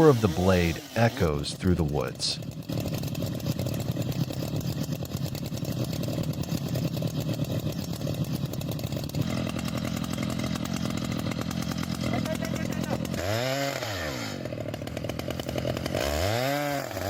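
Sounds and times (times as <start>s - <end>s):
chainsaw engine running: 0.0s - 17.0s.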